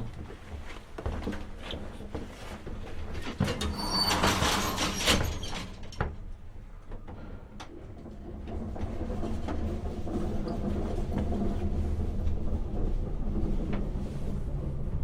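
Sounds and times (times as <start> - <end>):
elevator clanks and rattling: 0.0 - 15.0
elevator low rumble: 0.0 - 15.0.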